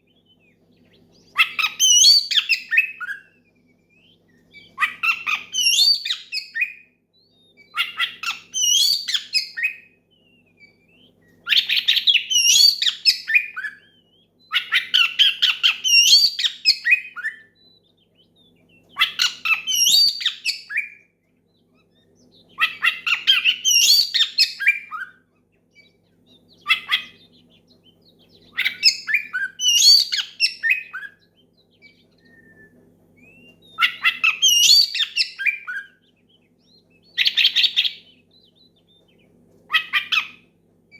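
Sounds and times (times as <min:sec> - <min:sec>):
songbird whistling and chirping: 0:00.0 - 0:40.9.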